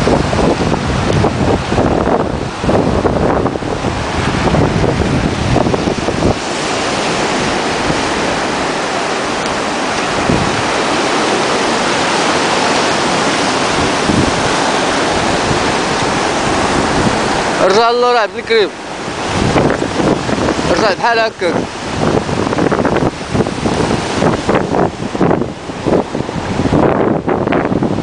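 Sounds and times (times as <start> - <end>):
waves breaking on beach: 0.0 - 28.0
wind buffeting microphone: 0.0 - 28.0.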